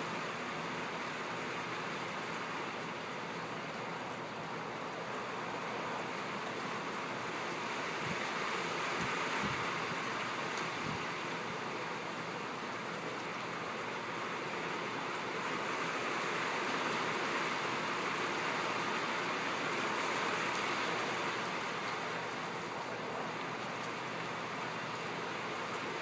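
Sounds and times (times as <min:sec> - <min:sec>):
rain on a tin roof: 0:00.0 - 0:26.0.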